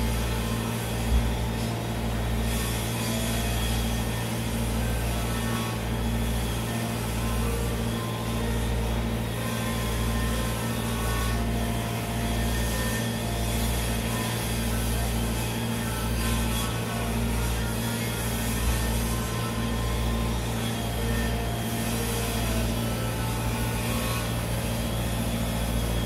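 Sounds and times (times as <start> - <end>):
pulsing machine hum: 0.0 - 26.0.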